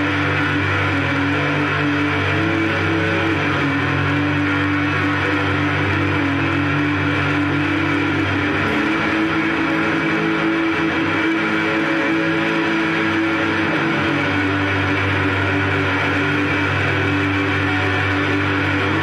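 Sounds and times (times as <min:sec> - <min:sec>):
droning electric guitar: 0:00.0 - 0:19.0.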